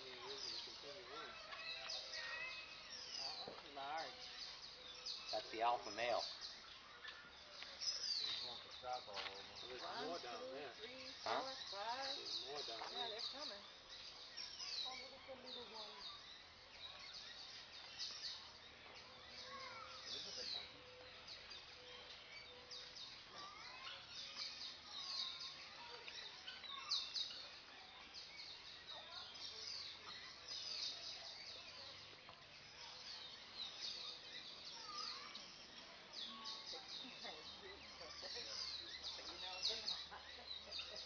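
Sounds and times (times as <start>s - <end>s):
faint outdoor background noise: 0.0s - 41.0s
small birds chirping: 0.0s - 41.0s.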